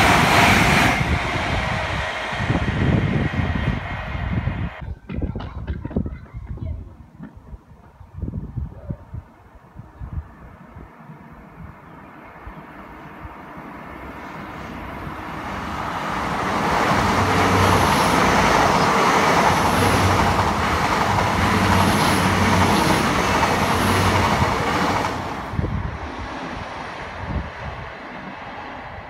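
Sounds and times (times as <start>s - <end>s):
train passing at speed: 0.0s - 4.8s, 9.6s - 29.0s.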